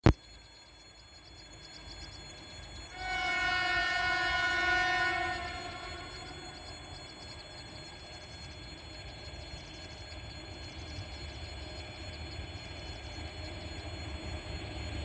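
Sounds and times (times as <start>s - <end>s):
distant freight train rumble: 2.6s - 15.0s.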